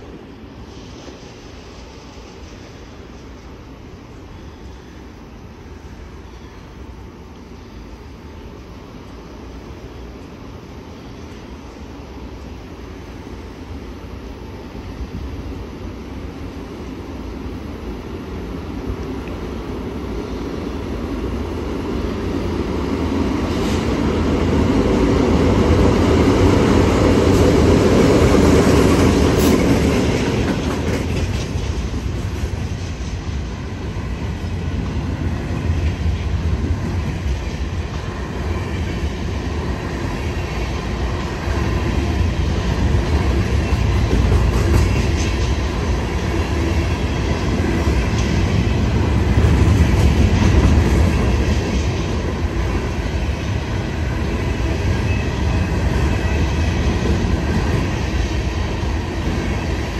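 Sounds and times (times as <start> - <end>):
diesel locomotives passing: 0.0 - 59.9
train wheels rumbling on rails: 0.0 - 59.9.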